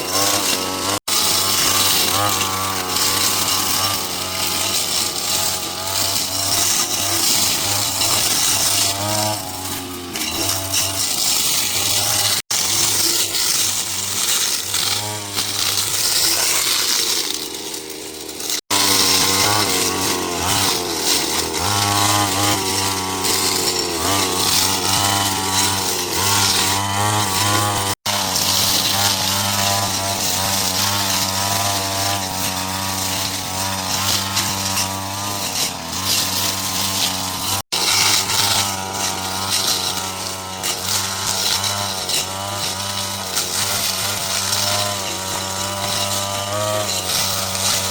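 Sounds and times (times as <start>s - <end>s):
power tool engine running: 0.0s - 47.9s.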